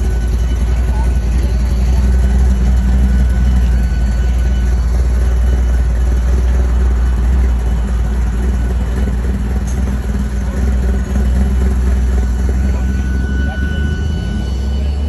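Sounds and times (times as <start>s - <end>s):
car engine exhaust rumble: 0.0s - 15.0s.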